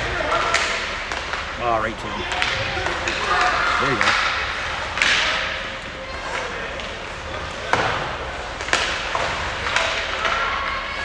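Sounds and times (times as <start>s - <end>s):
hockey puck crack echoing: 0.0s - 11.0s.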